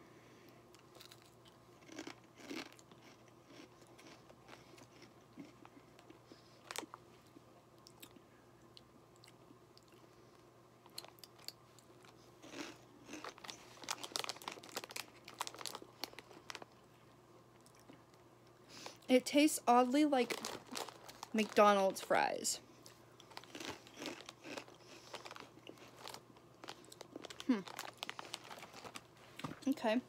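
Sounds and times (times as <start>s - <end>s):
crunching and chewing snacks: 0.6s - 19.1s, 20.2s - 22.1s, 22.7s - 29.8s.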